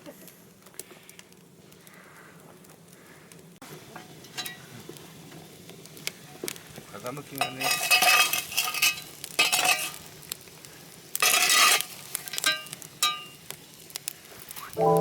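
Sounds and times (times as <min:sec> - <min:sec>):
fire hissing rushes: 0:00.0 - 0:14.8
wood fire crackling and popping: 0:00.0 - 0:15.0.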